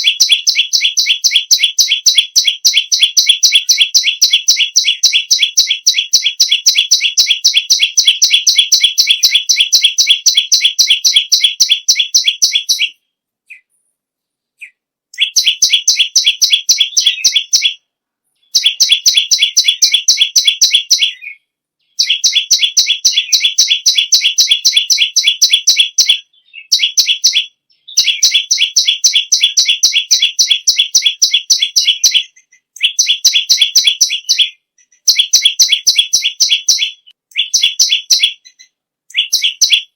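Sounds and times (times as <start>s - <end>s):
bird singing sharp chirps: 0.0s - 13.7s, 18.4s - 39.9s.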